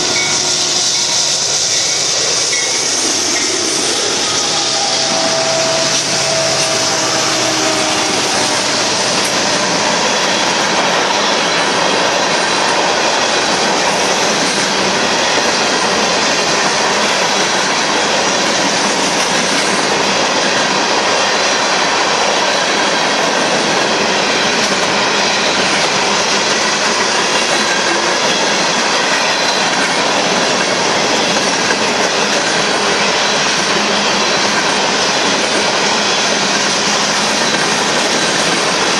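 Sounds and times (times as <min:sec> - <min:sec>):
freight train wheels rushing: 0:00.0 - 0:38.9.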